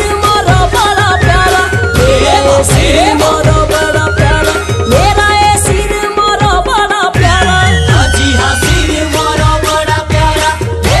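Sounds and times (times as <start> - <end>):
quick drum beat: 0.0 - 11.0.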